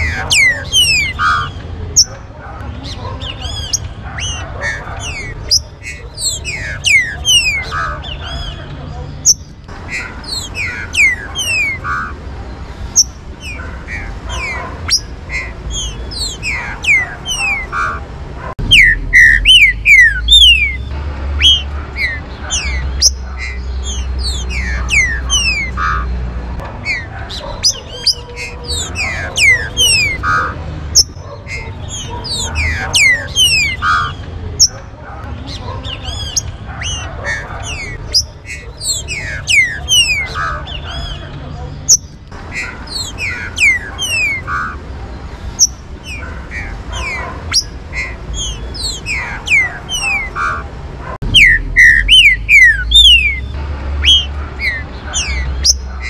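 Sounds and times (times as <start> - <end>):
bird whistling song: 0.0 - 2.2, 2.8 - 12.2, 12.9 - 18.0, 18.6 - 26.2, 26.8 - 34.8, 35.8 - 41.3, 41.9 - 44.8, 45.5 - 56.0.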